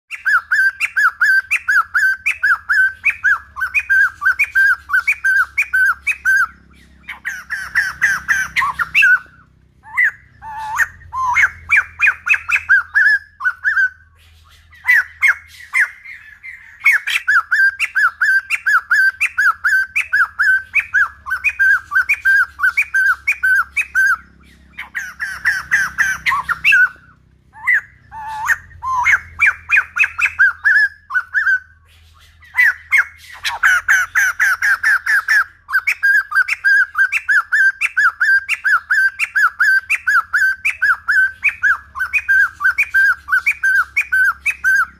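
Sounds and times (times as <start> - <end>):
bird chattering squawks: 0.1 - 44.9
bird singing repeated notes: 0.1 - 44.9.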